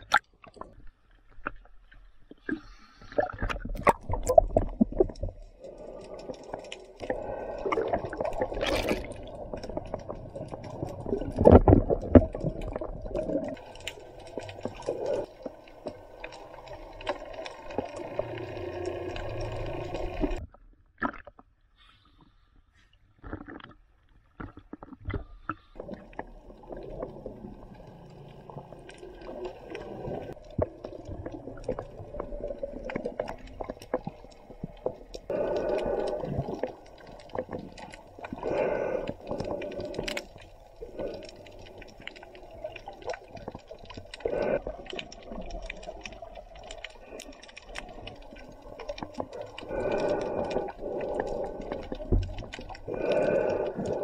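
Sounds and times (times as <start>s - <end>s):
small crackling clicks underwater: 0.0s - 22.3s, 23.1s - 54.0s
water sloshing and gurgling: 0.0s - 54.0s
water splashing: 2.2s - 20.4s, 24.4s - 54.0s.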